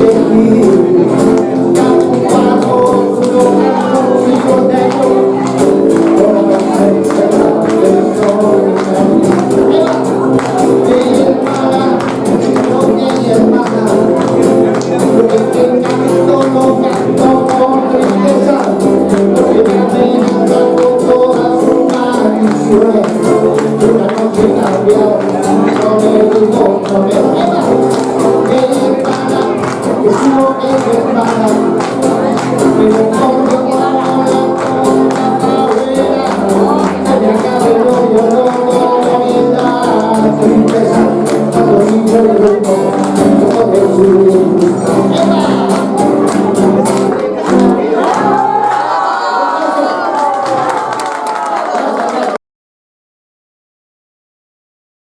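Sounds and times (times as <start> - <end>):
instrumental backing: 0.0 - 49.1
person singing: 0.0 - 52.4.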